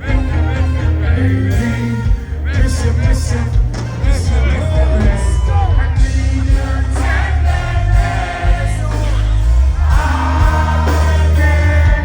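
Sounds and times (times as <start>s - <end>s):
heavy bass line: 0.0s - 12.0s
live reggae band with singing: 0.0s - 12.0s.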